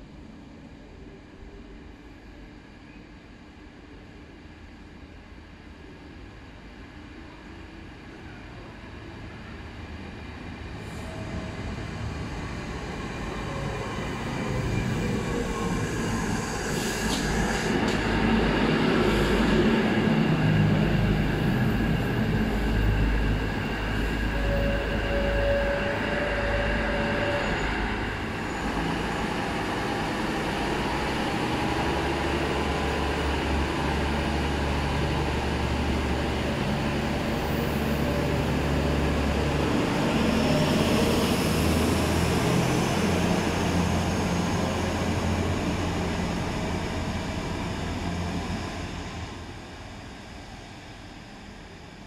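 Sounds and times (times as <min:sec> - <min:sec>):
train engine rumble: 0:00.0 - 0:52.0.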